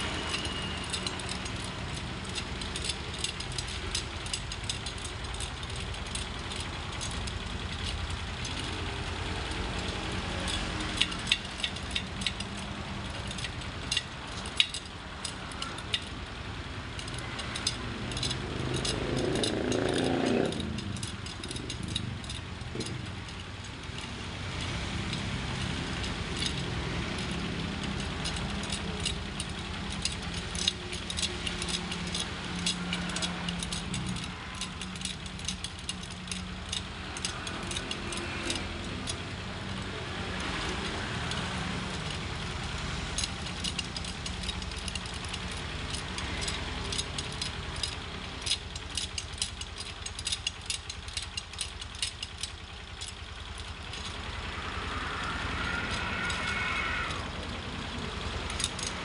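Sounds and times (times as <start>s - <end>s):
metal spokes clicking and jingling: 0.0s - 59.0s
vehicle engine running: 0.0s - 59.0s.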